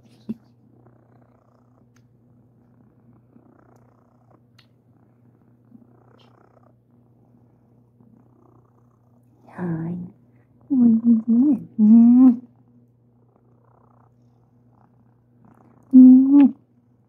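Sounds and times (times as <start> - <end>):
cat purring softly: 0.0 - 17.0.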